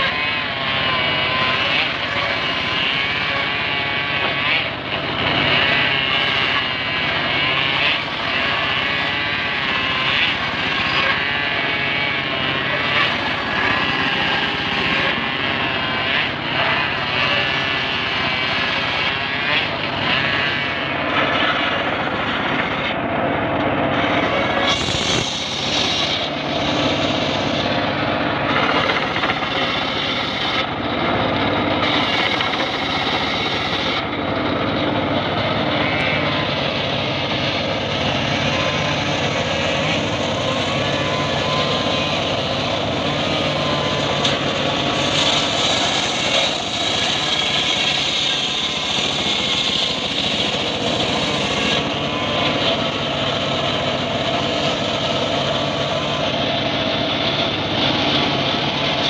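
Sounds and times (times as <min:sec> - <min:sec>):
circular saw running: 0:00.0 - 0:59.0
saw blade cutting wood: 0:00.0 - 0:59.0.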